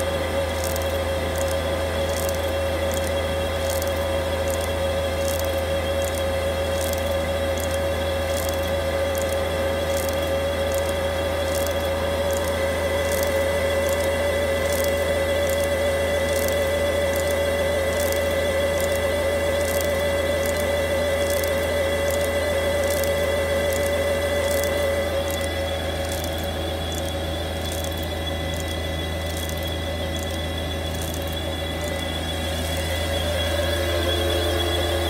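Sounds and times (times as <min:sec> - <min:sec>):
light mechanical ticking: 0:00.0 - 0:34.4
machine motor hum: 0:00.0 - 0:35.0.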